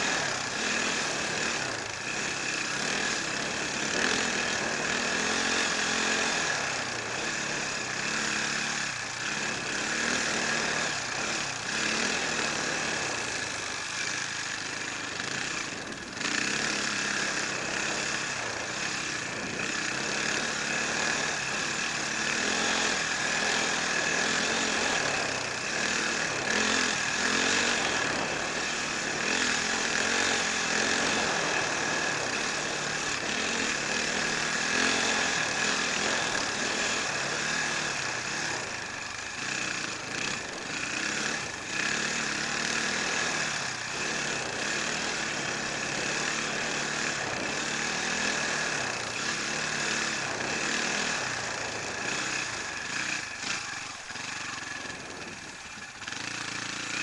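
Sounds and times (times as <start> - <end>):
motorcycle engine revving: 0.0 - 57.0
steady rushing noise: 0.0 - 57.0.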